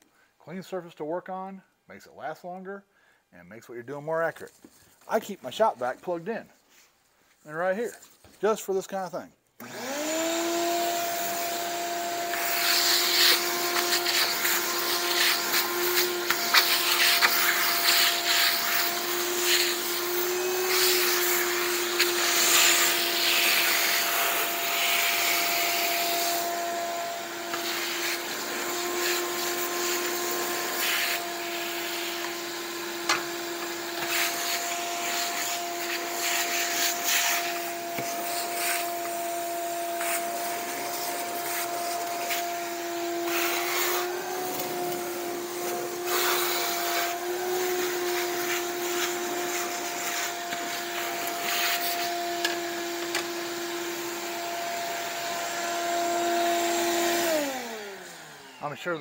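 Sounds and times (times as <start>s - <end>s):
shop vacuum running: 9.6s - 59.0s.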